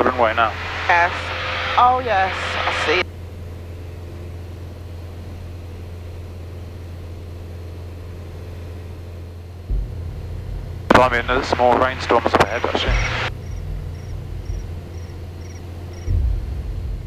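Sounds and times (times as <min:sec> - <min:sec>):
aircraft engine and propeller droning: 0:00.0 - 0:17.0
deep low rumble: 0:00.0 - 0:17.0.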